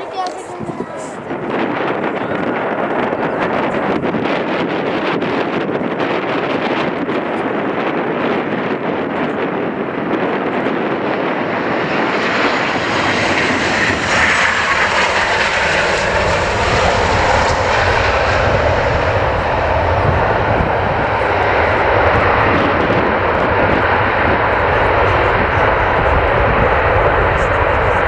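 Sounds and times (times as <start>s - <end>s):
jet airliner passing close: 0.0s - 28.0s.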